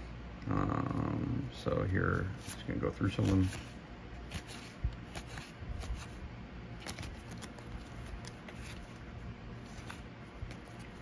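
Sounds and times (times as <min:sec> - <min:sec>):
cards sliding and flipping: 0:02.1 - 0:11.0.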